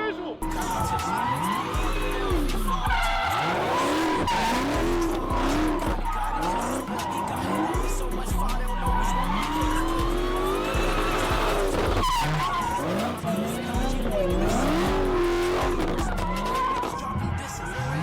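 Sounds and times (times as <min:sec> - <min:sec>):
car engine revving: 0:00.3 - 0:18.0
tyres squealing: 0:00.4 - 0:18.0.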